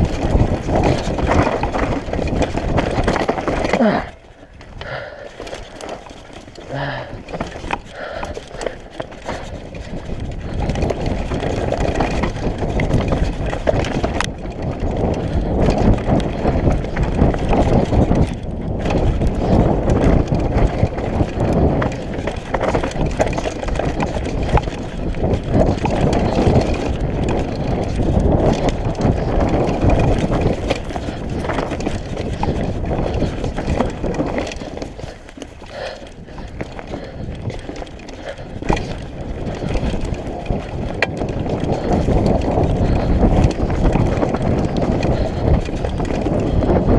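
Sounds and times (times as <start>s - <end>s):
mountain bike clattering: 0.0s - 46.9s
wind on microphone: 0.0s - 46.9s.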